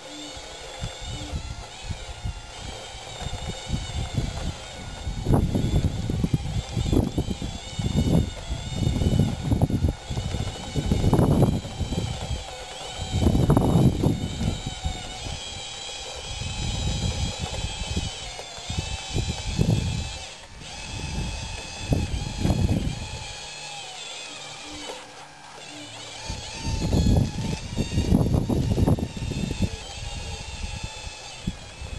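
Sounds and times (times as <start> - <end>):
model bulldozer electric whine: 0.0 - 31.9
wind buffeting microphone: 0.4 - 24.0, 25.6 - 31.9.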